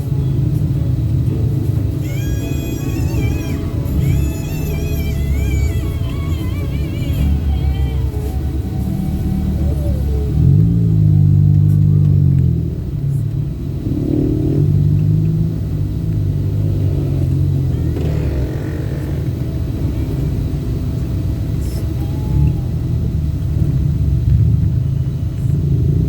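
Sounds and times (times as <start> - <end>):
car road and engine rumble: 0.0 - 26.0
music on car stereo: 0.0 - 26.0.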